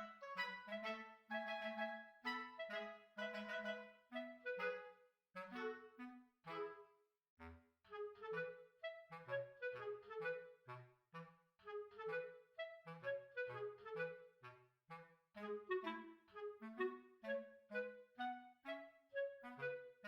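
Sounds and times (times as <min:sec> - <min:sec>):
bouncy woodwind tune: 0:00.0 - 0:07.0, 0:07.9 - 0:20.0.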